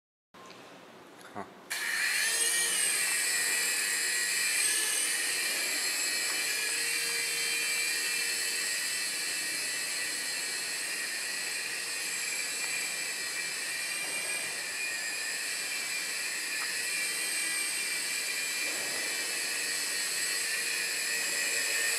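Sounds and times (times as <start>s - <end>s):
toy helicopter rotors whining: 1.7s - 21.9s.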